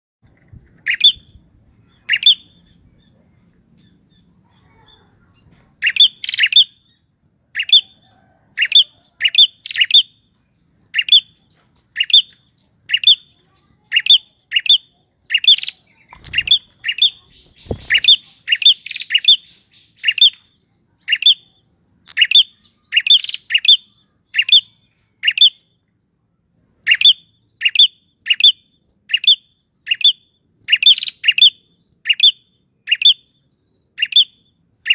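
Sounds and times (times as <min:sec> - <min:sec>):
songbird sharp high chirps: 0:00.8 - 0:03.2, 0:05.8 - 0:08.0, 0:08.6 - 0:10.2, 0:10.8 - 0:34.9.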